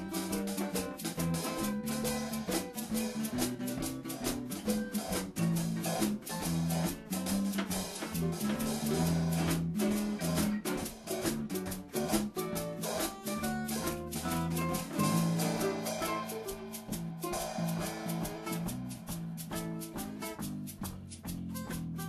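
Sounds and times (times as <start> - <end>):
drums keeping a steady beat: 0.0 - 22.0
guitar-led tune: 0.0 - 22.0.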